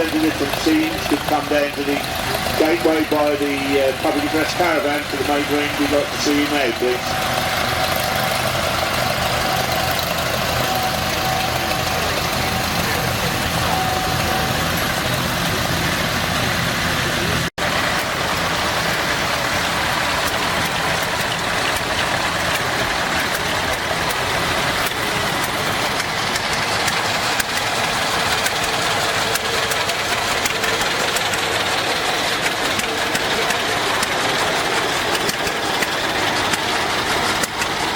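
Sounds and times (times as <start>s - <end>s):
tractor engines idling: 0.0s - 37.9s.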